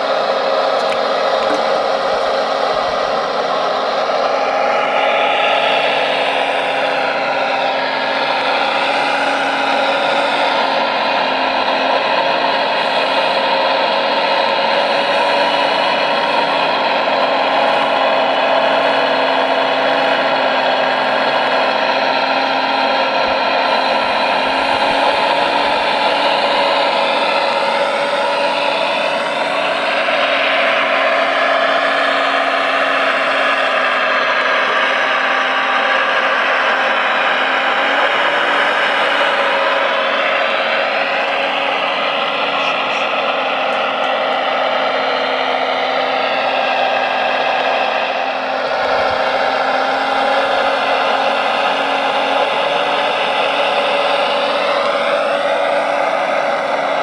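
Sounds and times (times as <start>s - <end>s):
hydraulic pump whining: 0.0s - 57.0s.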